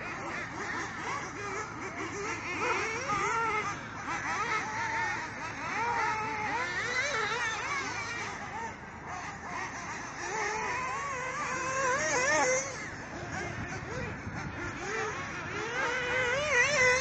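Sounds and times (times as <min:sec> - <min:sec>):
high-pitched toy car motor: 0:00.0 - 0:17.0.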